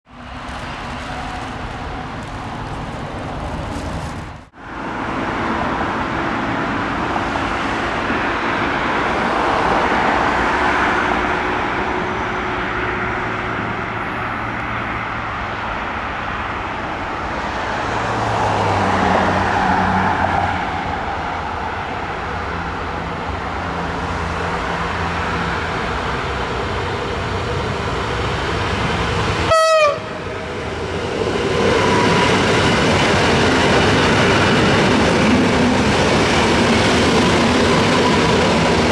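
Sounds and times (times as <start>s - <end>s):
passing vehicles rumbling: 0.1s - 38.9s.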